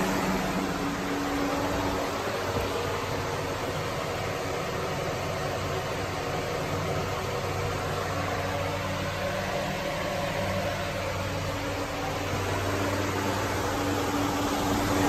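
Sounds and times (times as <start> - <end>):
fan air rushing: 0.0 - 15.0
low motor hum: 0.0 - 15.0.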